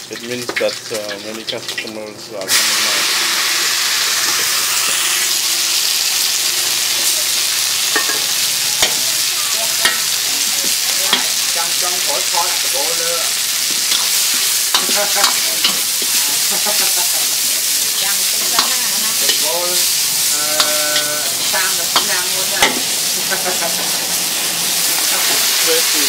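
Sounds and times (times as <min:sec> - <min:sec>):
greens sizzling in a wok: 0:00.0 - 0:26.0
metal ladle scraping a wok: 0:04.1 - 0:25.4.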